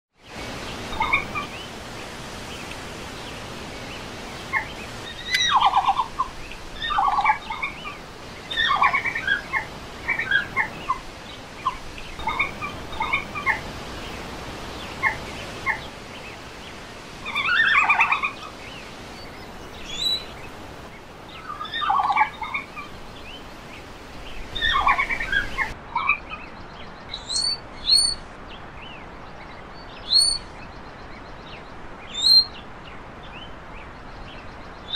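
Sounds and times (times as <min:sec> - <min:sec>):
background hiss: 0:00.2 - 0:34.9.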